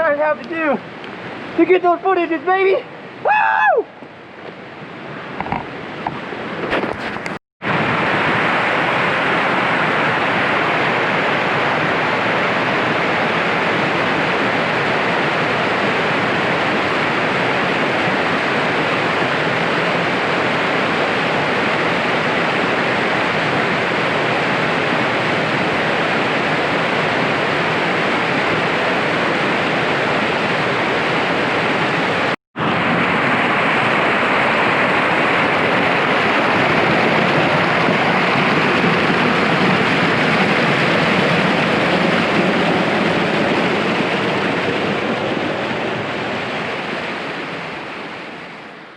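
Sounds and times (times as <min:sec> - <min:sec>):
steady rushing noise: 0:00.0 - 0:48.9.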